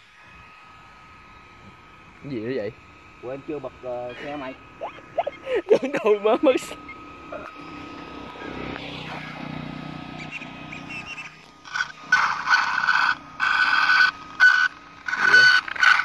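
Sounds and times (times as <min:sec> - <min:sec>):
harsh grating rc car drivetrain: 0:02.2 - 0:05.8, 0:06.5 - 0:16.0.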